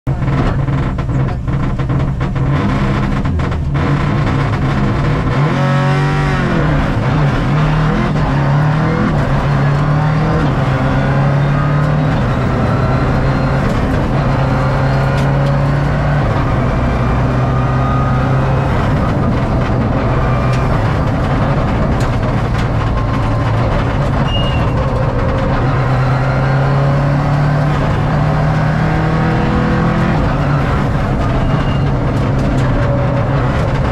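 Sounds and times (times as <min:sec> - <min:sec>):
tyre road roar: 0:00.0 - 0:33.9
rally car engine revving through gears: 0:00.1 - 0:33.9.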